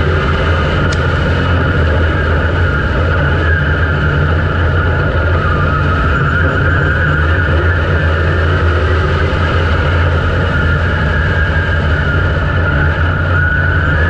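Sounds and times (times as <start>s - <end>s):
race car engine running: 0.0s - 14.0s.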